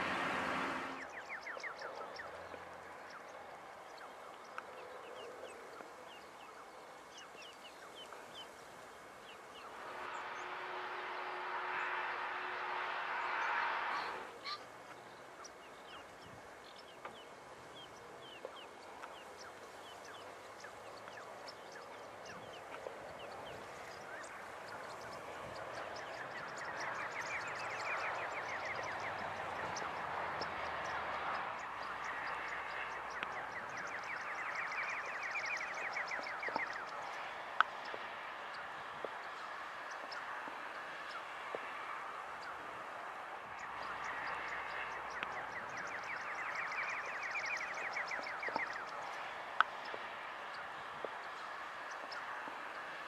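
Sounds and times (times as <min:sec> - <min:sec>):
rapid trilling bird calls: 0:00.0 - 0:40.4, 0:43.6 - 0:52.3
flock of marsh birds calling: 0:00.0 - 0:52.6.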